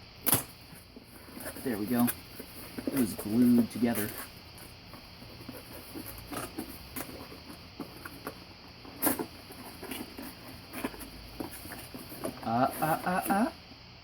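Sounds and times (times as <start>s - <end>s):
cardboard box being handled: 0.6s - 13.4s.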